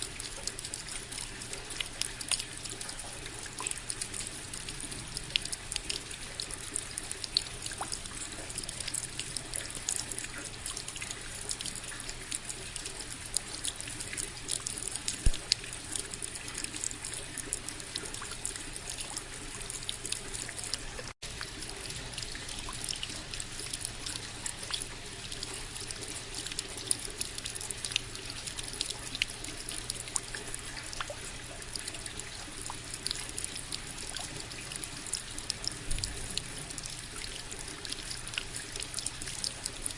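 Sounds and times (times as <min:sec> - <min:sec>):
sharp raindrop ticks: 0:00.0 - 0:39.9.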